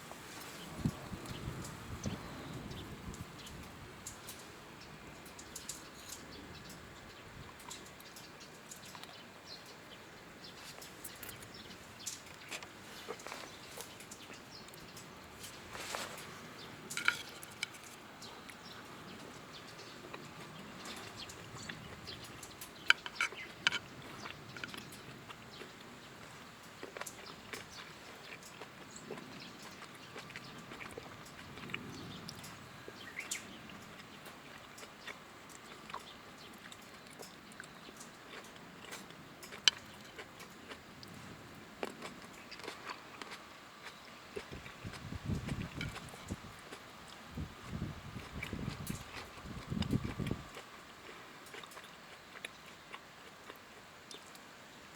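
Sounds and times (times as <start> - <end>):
soft steady fire hiss: 0.0 - 54.9.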